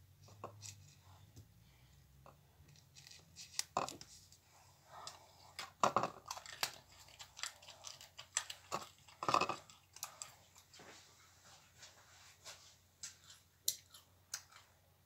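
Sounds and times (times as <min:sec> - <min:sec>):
objects being handled: 0:00.2 - 0:14.8.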